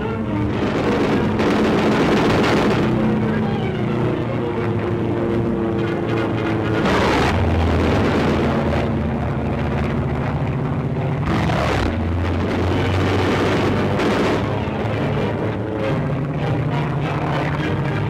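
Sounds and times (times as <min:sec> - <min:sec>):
plane passing close: 0:00.0 - 0:18.0
propeller planes droning: 0:00.0 - 0:18.0.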